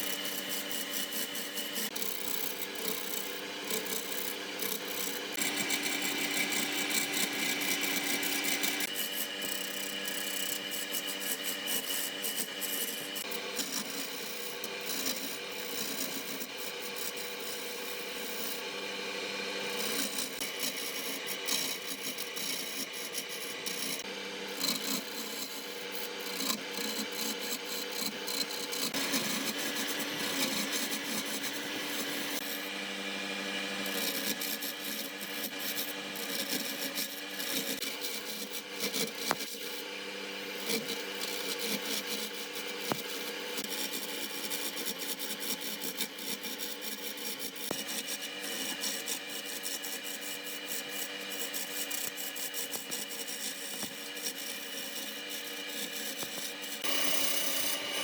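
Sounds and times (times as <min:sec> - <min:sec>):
lathe motor hum: 0:00.0 - 0:45.0, 0:47.7 - 0:58.0
cutting tool scraping wood: 0:00.0 - 0:58.0.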